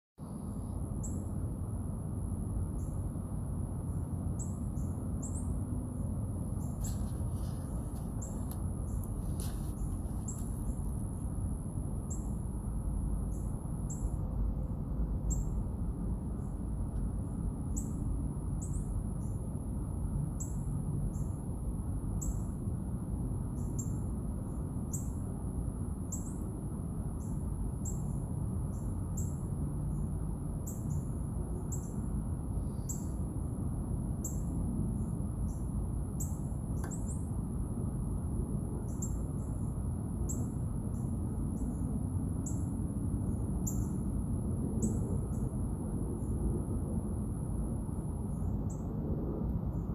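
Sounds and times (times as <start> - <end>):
steady low rumble: 0.2 - 49.9.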